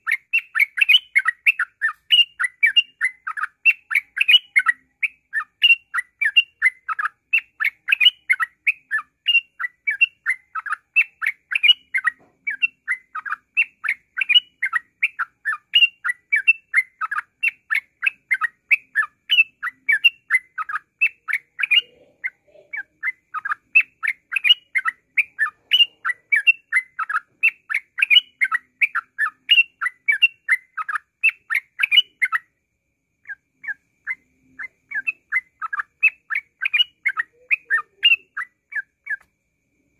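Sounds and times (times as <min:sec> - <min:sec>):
bird singing rapid chirps: 0:00.0 - 0:32.6, 0:33.2 - 0:39.3.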